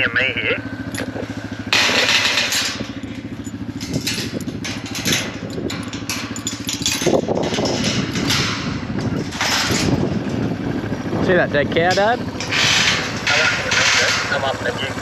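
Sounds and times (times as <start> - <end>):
motorbike engine idling and revving: 0.0 - 15.0
metal gate clanking: 0.6 - 15.0.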